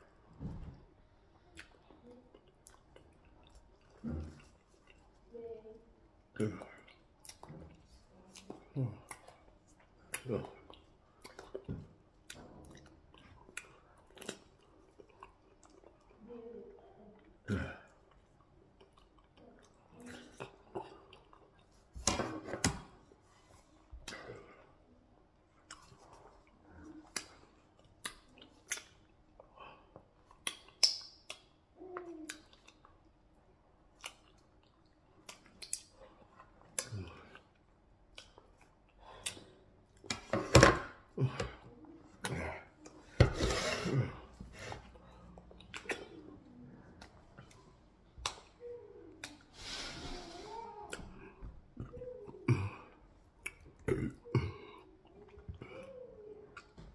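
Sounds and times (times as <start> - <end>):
man chewing with wet mouth sounds: 0.1 - 5.4, 6.0 - 16.3, 17.0 - 22.0, 22.6 - 40.2, 43.8 - 49.8, 50.6 - 56.9.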